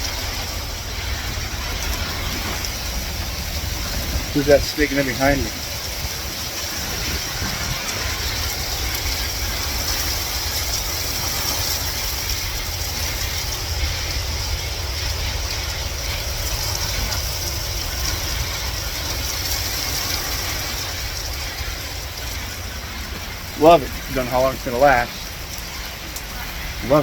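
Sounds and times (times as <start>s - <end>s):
constant low rumble: 0.0s - 27.0s
rain falling: 0.0s - 27.0s.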